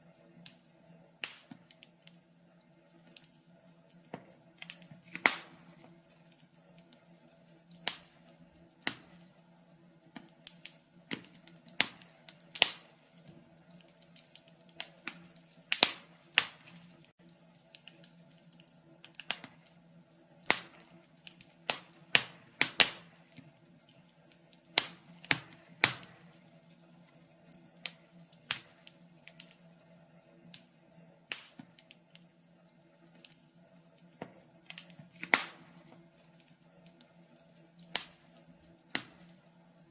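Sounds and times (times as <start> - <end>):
logs crackling in a fireplace: 0.0 - 39.9.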